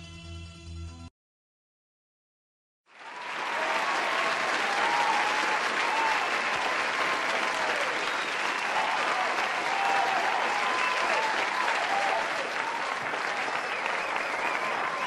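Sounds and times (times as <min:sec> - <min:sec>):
crowd clapping: 0:02.9 - 0:15.0.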